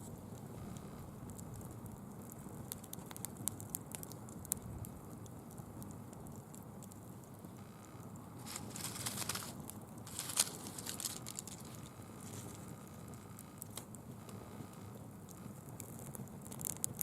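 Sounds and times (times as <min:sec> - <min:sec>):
fire snapping: 0:00.0 - 0:17.0
leaves crackling in a campfire: 0:00.0 - 0:17.0.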